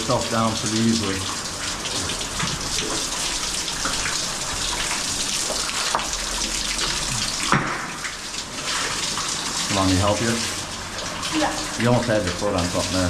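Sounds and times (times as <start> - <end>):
waterfall pouring and splashing: 0.0 - 13.0.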